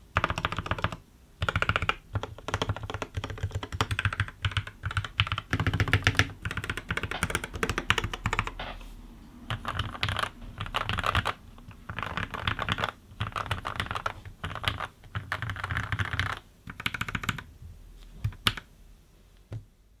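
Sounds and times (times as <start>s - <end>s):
mechanical keyboard typing: 0.1s - 8.8s, 9.4s - 17.5s, 18.2s - 18.7s.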